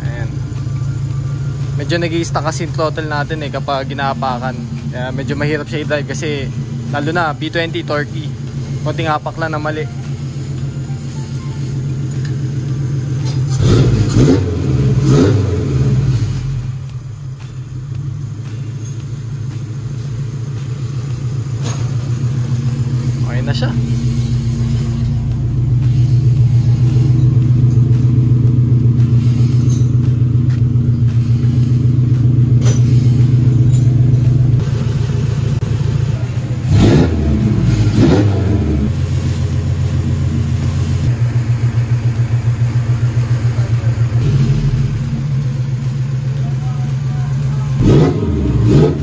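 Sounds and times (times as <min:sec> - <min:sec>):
car engine running and revving: 0:00.0 - 0:49.0.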